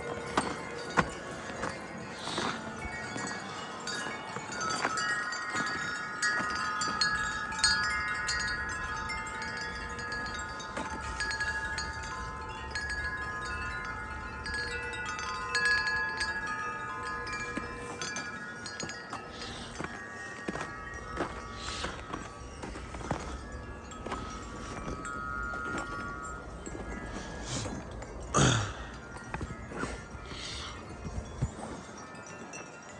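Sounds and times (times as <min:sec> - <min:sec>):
low wind rumble: 0:00.0 - 0:31.9
wind chimes ringing: 0:00.0 - 0:32.9.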